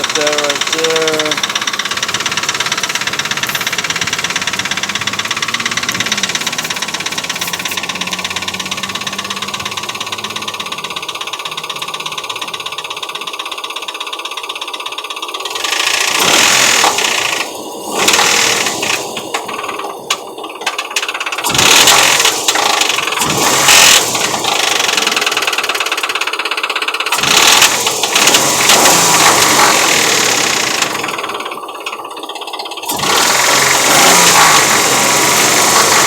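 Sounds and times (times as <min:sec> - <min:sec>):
car engine knocking: 0:00.0 - 0:36.0.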